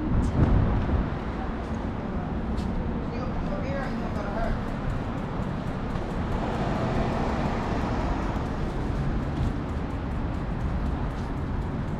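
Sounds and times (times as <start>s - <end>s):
city street traffic rumble: 0.0s - 11.9s.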